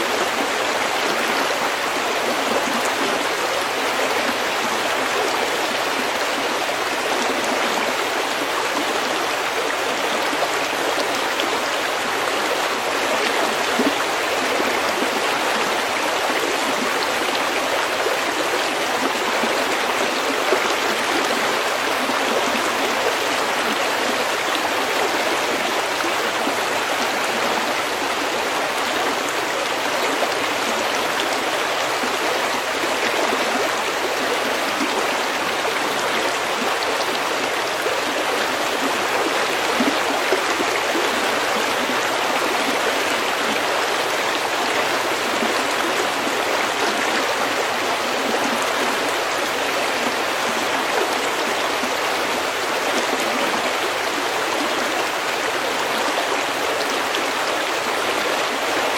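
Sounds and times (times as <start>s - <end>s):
stream flowing over pebbles: 0.0s - 58.9s.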